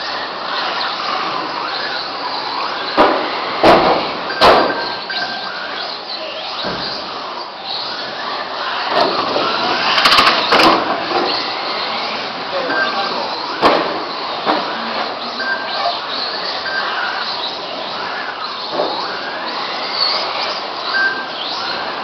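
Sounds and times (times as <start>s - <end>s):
radio-controlled car motors: 0.0s - 22.0s.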